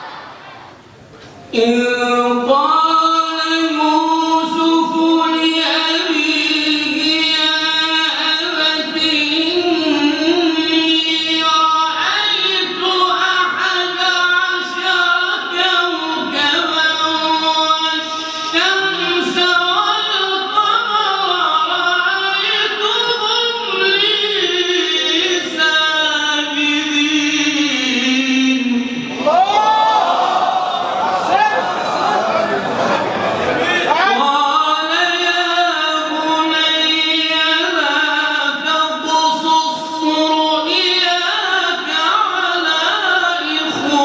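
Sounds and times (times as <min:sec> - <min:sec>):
person reciting melodically: 0:01.5 - 0:29.7, 0:33.6 - 0:44.0.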